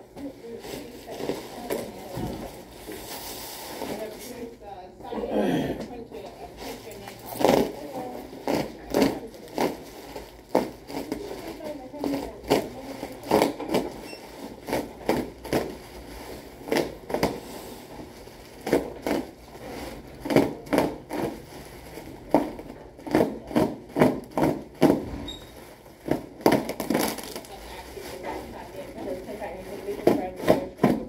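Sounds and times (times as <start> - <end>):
bubble wrap crinkling: 0.2 - 4.6, 6.4 - 31.0.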